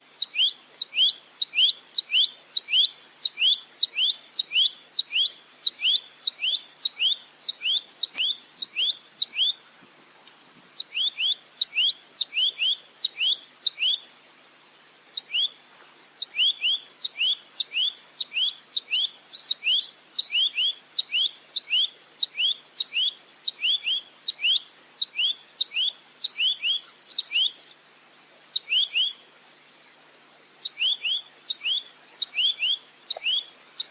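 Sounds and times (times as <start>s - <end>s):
nuthatch chip calls: 0.2s - 9.6s, 10.7s - 14.0s, 16.2s - 27.8s, 28.6s - 29.2s, 30.6s - 33.9s.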